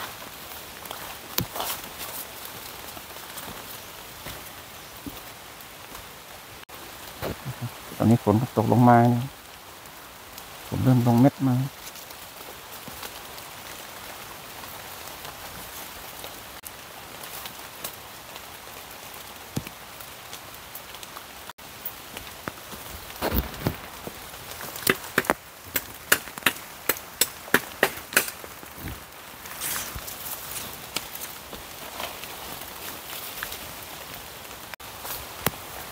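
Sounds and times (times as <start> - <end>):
rain falling: 0.0 - 35.9.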